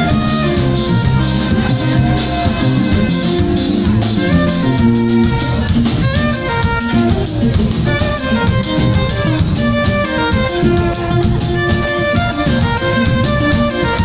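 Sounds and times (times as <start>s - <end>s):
bass guitar: 0.0s - 14.0s
drum kit: 0.0s - 14.0s
electric guitar: 0.0s - 14.0s
violin melody: 0.0s - 14.0s.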